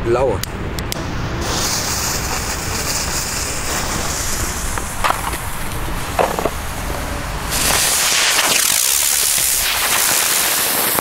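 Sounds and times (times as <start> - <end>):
smoke fireworks hissing: 1.0 - 11.0.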